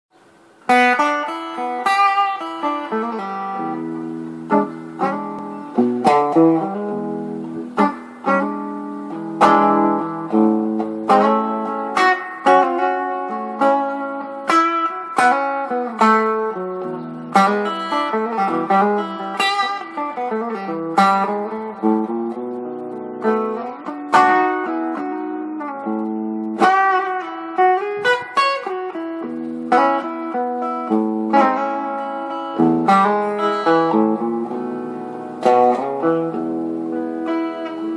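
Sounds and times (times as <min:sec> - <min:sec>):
electric guitar playing: 0:00.2 - 0:37.9.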